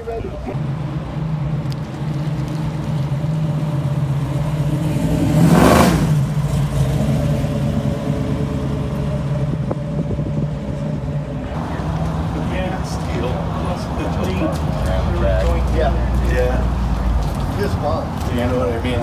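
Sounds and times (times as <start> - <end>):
car engine rumbling past: 0.6 - 19.0.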